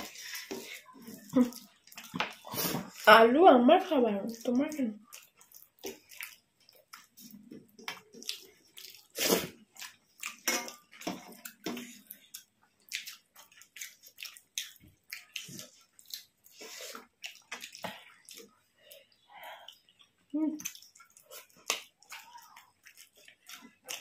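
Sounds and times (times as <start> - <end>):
wet chewing and smacking: 0.0 - 3.1, 4.3 - 24.0.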